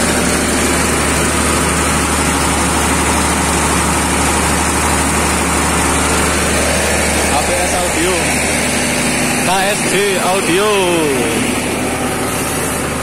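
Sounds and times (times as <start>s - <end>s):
generator engine drone: 0.0s - 13.0s.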